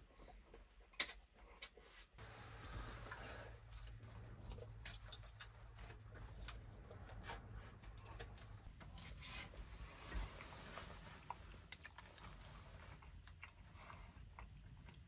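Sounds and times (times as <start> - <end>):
low steady hum: 2.2 - 15.0.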